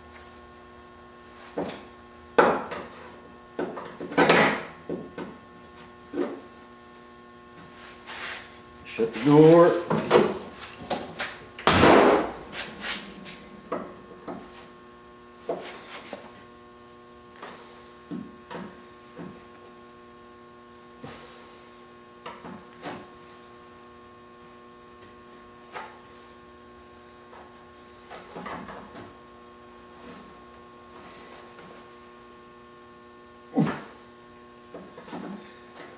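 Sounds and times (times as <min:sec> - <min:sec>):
electrical mains hum: 0:00.0 - 0:35.9.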